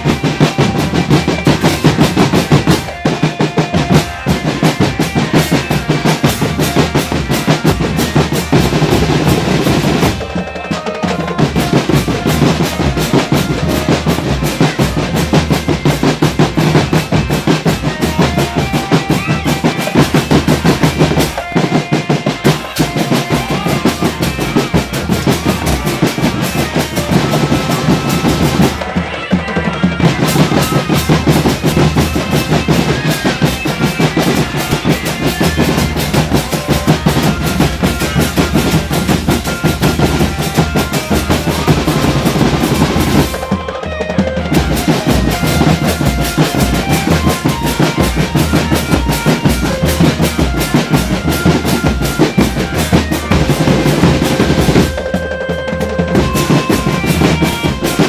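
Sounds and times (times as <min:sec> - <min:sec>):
marching snare drums: 0:00.0 - 0:58.0
melody over drums: 0:00.0 - 0:58.0.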